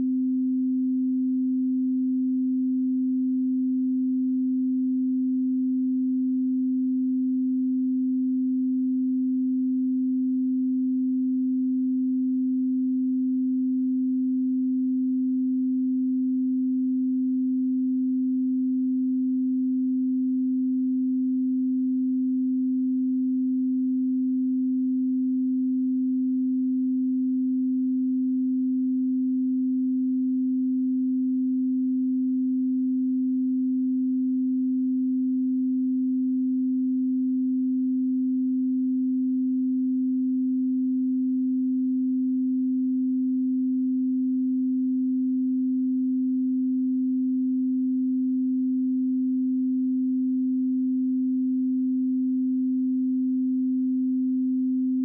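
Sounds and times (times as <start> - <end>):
sine wave test tone: 0.0 - 55.0.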